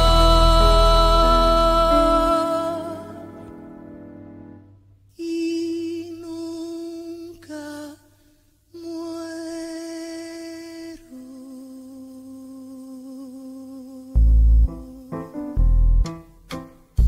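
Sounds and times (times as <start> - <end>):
wordless solo voice singing: 0.0 - 3.6, 5.1 - 15.6.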